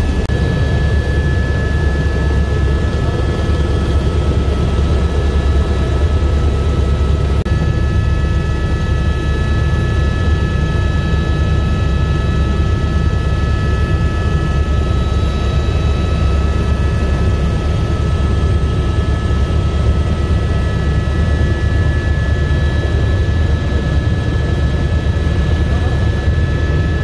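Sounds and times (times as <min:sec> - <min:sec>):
helicopter rotor and turbine rumble: 0:00.0 - 0:27.0
high turbine whine: 0:00.0 - 0:27.0.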